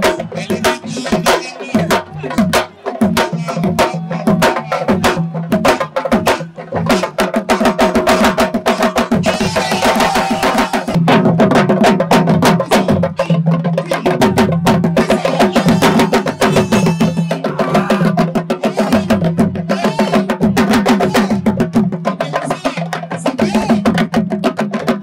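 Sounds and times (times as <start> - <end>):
fast drumming: 0.0 - 25.0.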